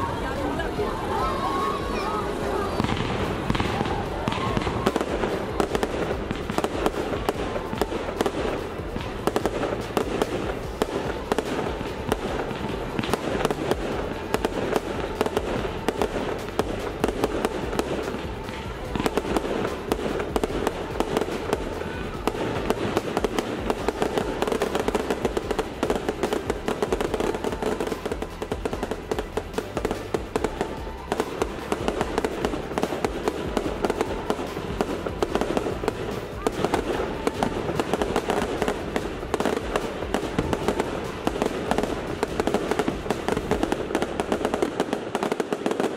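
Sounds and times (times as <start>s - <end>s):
fireworks banging and crackling: 0.0s - 45.9s
music playing: 0.0s - 45.9s.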